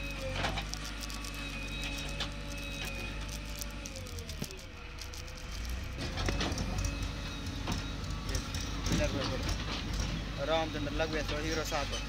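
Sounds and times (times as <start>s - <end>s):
diesel engine under load: 0.0s - 12.0s.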